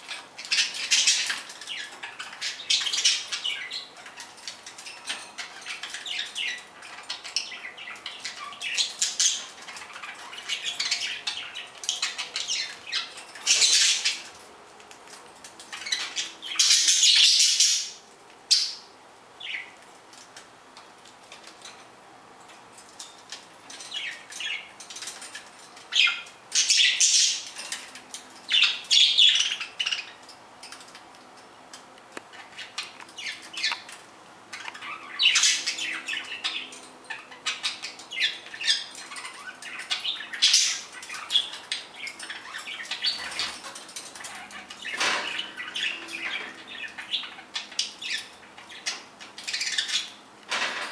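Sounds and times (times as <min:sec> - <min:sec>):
budgerigars chattering and chirping: 0:00.1 - 0:14.4, 0:15.6 - 0:19.8, 0:23.3 - 0:30.4, 0:32.3 - 0:50.2.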